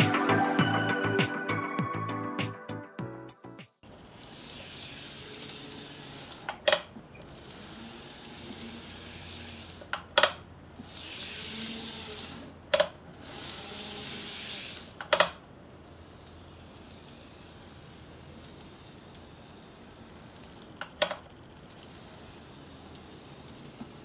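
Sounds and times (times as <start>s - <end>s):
model train motor whirring: 3.9s - 24.0s.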